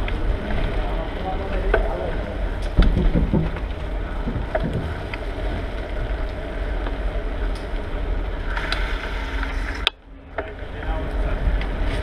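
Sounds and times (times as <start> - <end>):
bicycle clicks and rattles: 0.0 - 12.0
road noise: 0.0 - 12.0
wind rumbling on microphone: 0.0 - 12.0.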